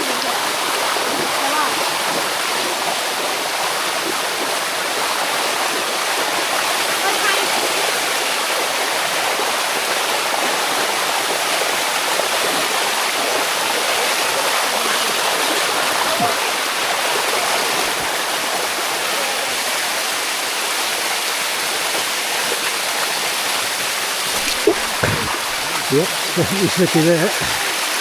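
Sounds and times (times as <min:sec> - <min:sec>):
waterfall rushing and splashing: 0:00.0 - 0:28.0.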